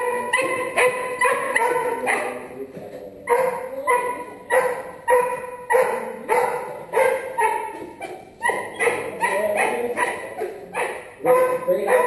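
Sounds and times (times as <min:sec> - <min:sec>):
puppy barking: 0:00.0 - 0:02.6, 0:03.2 - 0:12.0.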